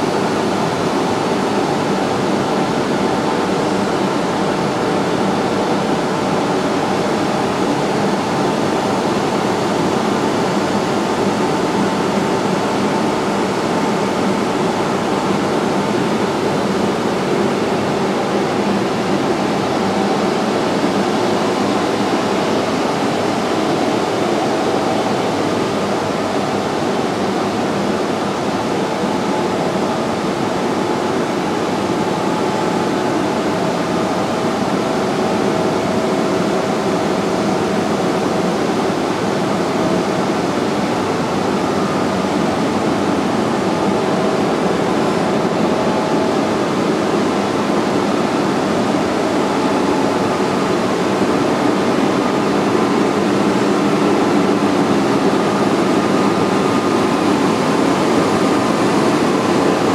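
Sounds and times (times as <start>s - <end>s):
cooling fans whirring: 0.0s - 59.9s.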